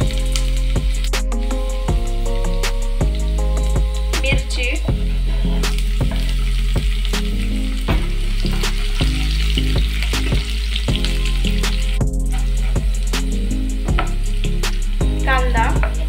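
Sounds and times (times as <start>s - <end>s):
background music with steady beat: 0.0s - 16.0s
food sizzling in hot oil: 0.0s - 16.0s.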